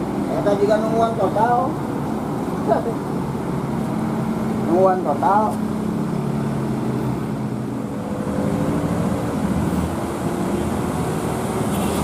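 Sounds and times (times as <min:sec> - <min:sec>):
heavy truck engines humming: 0:00.0 - 0:12.0.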